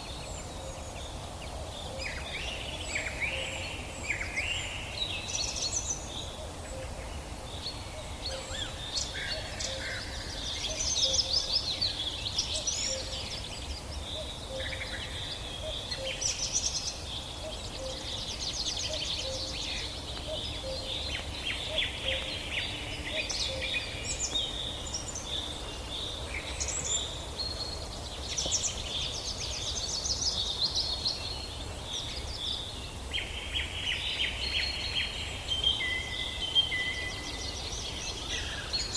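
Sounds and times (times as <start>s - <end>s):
birds singing and calling: 0.0s - 38.9s
low background hiss: 0.0s - 38.9s.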